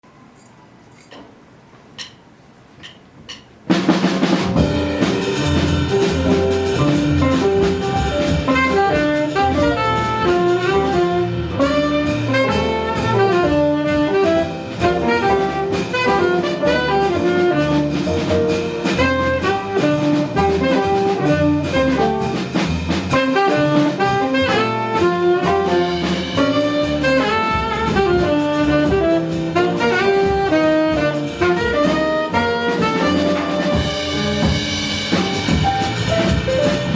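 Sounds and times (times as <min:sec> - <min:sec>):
live jazz band: 0:03.7 - 0:36.9
saxophone melody: 0:04.6 - 0:22.3, 0:23.1 - 0:35.3.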